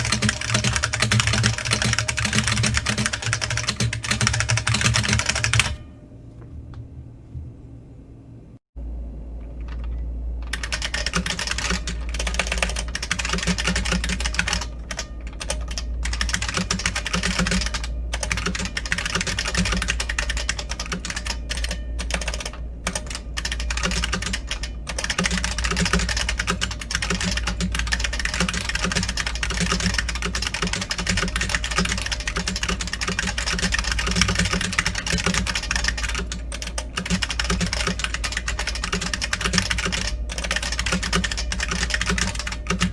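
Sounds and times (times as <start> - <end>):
fast keyboard typing clatter: 0.0 - 5.8, 9.6 - 42.9.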